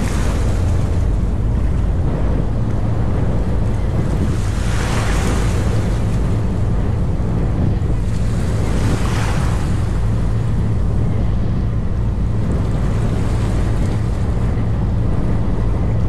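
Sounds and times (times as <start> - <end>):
small boat engine drone: 0.0 - 16.0
water rushing past hull: 0.0 - 16.0
wind buffeting microphone: 0.0 - 16.0.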